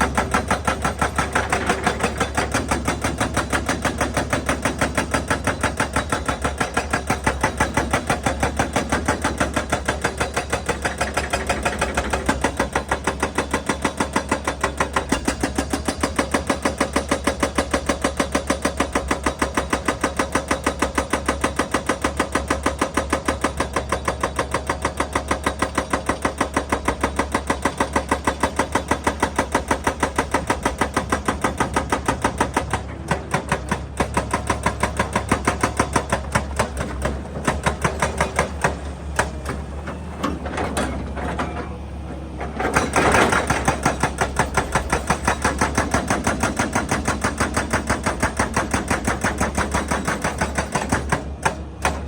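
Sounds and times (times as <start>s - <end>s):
hydraulic breaker hammering rock: 0.0s - 52.0s.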